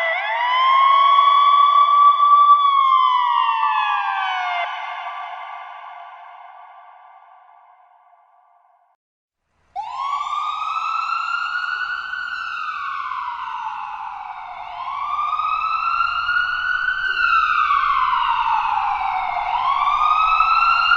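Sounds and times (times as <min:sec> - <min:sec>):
ambulance siren wailing: 0:00.0 - 0:06.5, 0:09.8 - 0:20.9.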